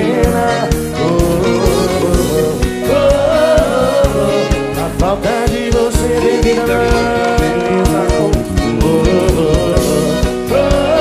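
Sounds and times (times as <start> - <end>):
live band playing: 0.0 - 11.0
person singing: 0.0 - 11.0
steady drum beat: 0.0 - 11.0.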